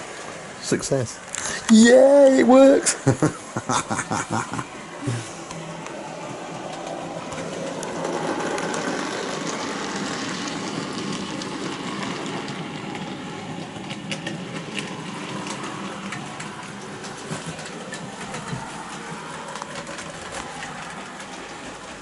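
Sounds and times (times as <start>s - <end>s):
wheels rattling on rails: 0.0s - 22.0s.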